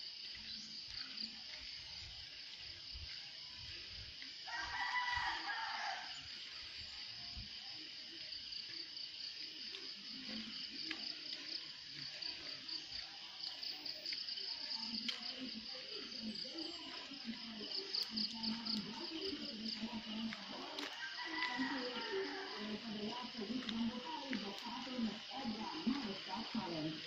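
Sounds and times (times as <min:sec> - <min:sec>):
insects chorus buzzing: 0:00.0 - 0:27.0.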